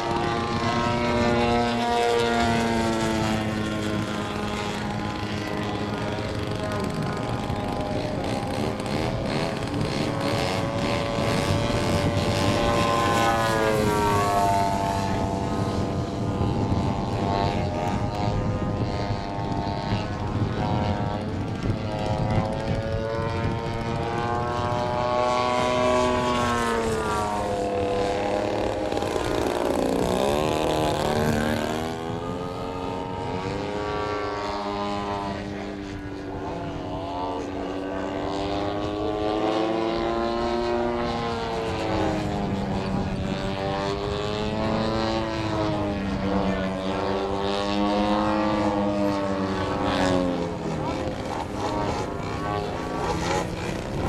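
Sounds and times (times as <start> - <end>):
model airplane motors whining: 0.0 - 54.0.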